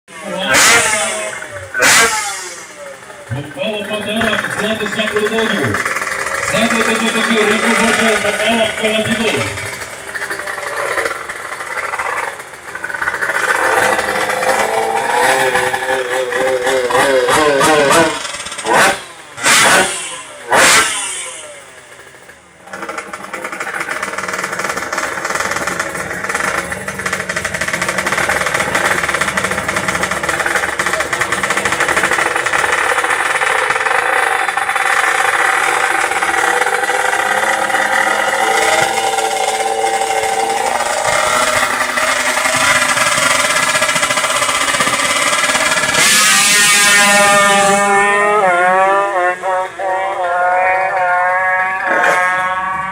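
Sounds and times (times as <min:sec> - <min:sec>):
two-stroke engine revving: 0:00.1 - 0:52.9.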